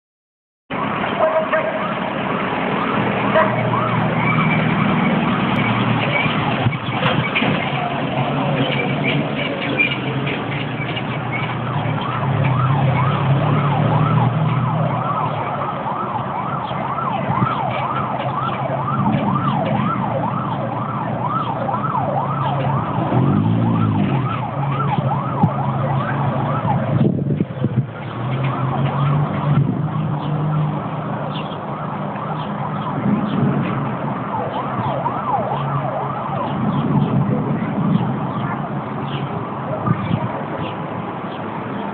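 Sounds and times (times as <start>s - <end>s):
engine and traffic hum: 0.7s - 41.9s
siren yelping: 0.8s - 40.6s.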